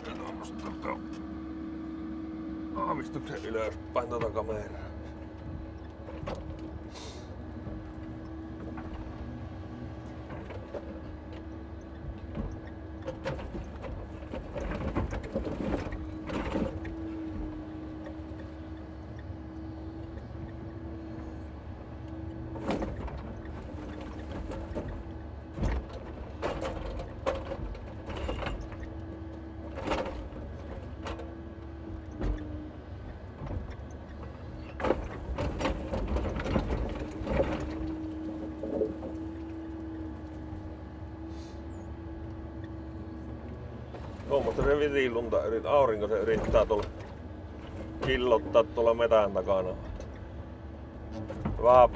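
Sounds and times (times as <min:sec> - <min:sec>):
truck engine and hydraulic crane: 0:00.0 - 0:51.9.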